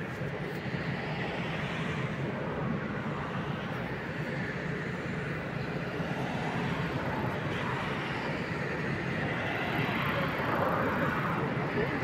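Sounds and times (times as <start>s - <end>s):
city noise: 0.0s - 12.0s
railway station rumble and hum: 0.0s - 12.0s.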